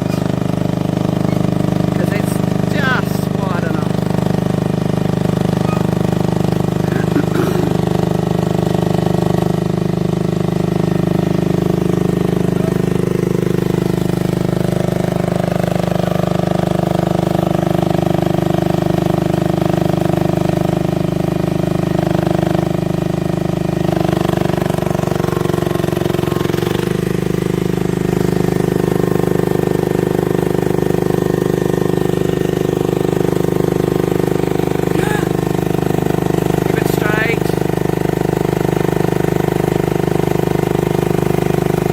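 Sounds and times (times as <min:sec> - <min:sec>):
mini excavator engine running: 0:00.0 - 0:41.9.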